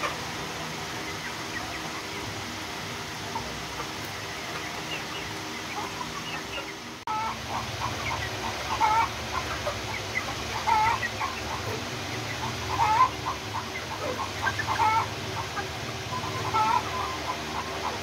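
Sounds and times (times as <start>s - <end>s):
chickens peeping and clucking: 0.0s - 18.0s.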